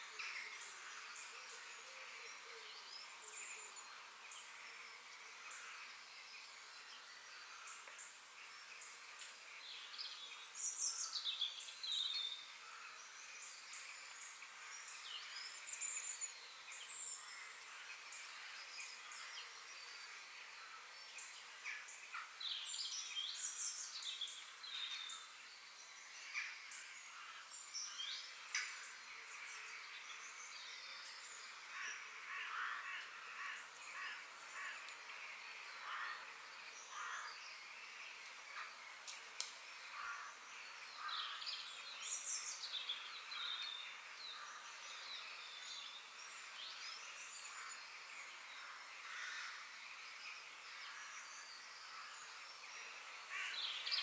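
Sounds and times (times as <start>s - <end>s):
small birds chirping: 0.0s - 54.0s
steady background hiss: 0.0s - 54.0s.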